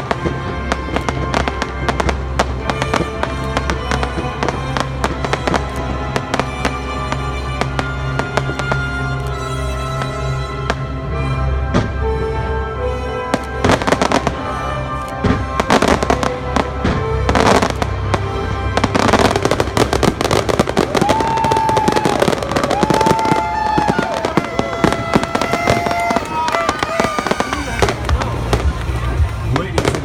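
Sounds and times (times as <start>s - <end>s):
fireworks bangs and crackles: 0.0s - 12.5s, 13.3s - 30.0s
loud background music: 0.0s - 30.0s.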